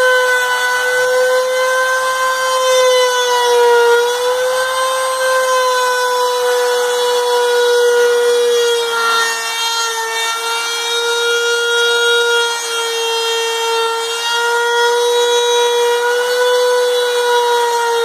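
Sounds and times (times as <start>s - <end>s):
router whining cutting wood: 0.0s - 18.0s.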